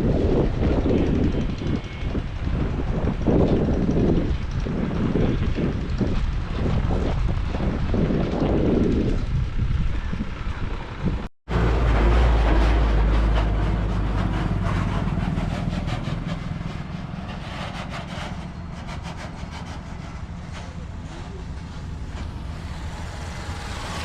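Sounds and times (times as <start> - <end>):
road noise: 0.0 - 24.0
wind buffeting microphone: 0.0 - 24.0.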